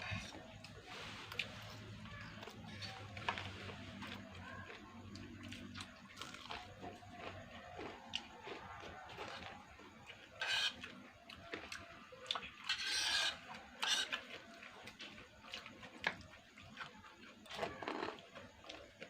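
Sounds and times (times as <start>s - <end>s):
close-miked chewing: 0.0s - 19.0s.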